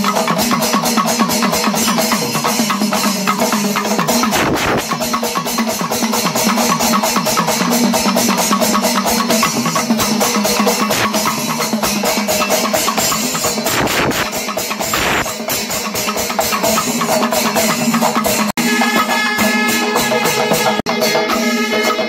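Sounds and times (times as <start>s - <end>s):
cymbals ringing: 0.0s - 22.0s
drums struck in fast beat: 0.0s - 22.0s.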